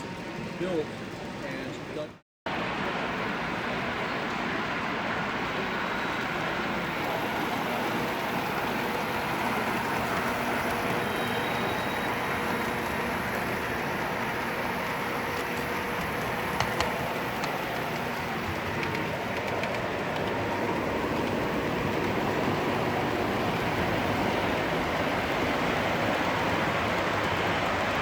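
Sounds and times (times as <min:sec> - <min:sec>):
model train running: 0:00.0 - 0:28.0.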